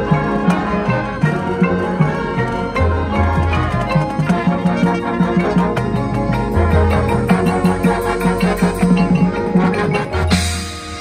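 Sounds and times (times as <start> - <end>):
marching band wind chords: 0.0 - 11.0.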